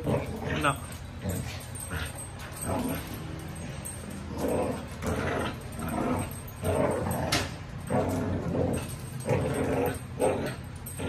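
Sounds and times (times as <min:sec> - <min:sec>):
dog growling: 0:00.0 - 0:11.0.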